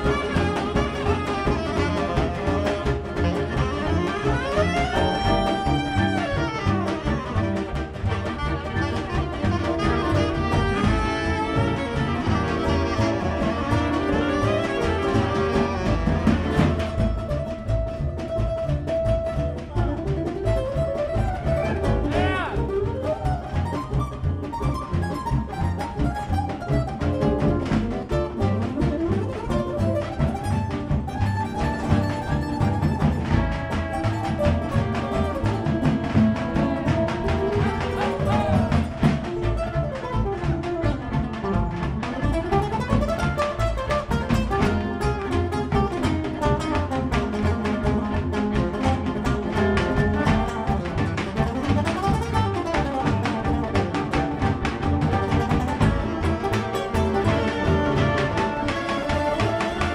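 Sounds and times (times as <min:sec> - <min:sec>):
bowed strings: 0:00.0 - 0:59.9
drum strokes: 0:00.0 - 0:59.9
plucked mandolin and guitar: 0:00.0 - 0:59.9
upright bass: 0:00.0 - 0:59.9.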